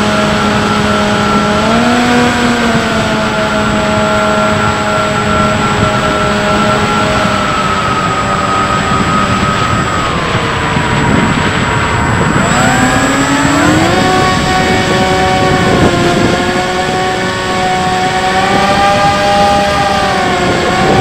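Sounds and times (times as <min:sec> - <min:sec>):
electric motor and propeller whining: 0:00.0 - 0:21.0
wind rushing: 0:00.0 - 0:21.0.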